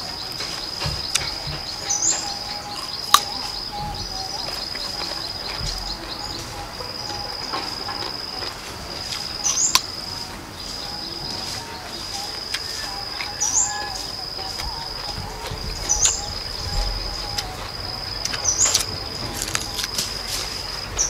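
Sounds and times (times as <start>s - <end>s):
crunchy chewing: 0.0s - 21.0s
insect trilling: 0.0s - 21.0s.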